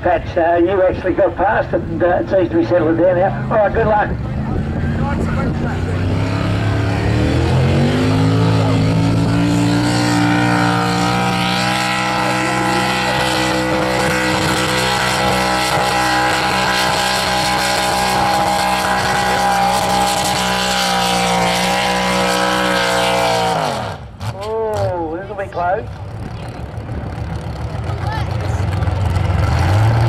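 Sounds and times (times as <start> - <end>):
tractor engine at high revs: 1.4 - 30.0.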